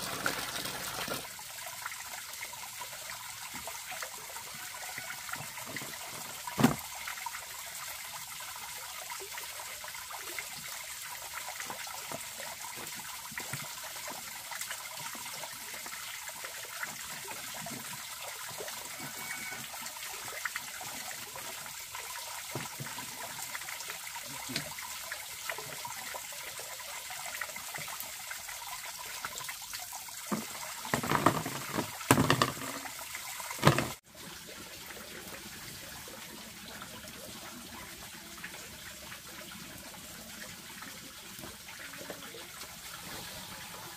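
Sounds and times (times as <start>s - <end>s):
trickle of running water: 0.0s - 43.9s.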